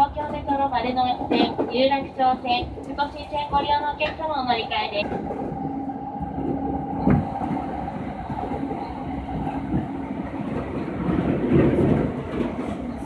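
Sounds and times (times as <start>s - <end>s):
electric train rumble on rails: 0.0s - 13.0s.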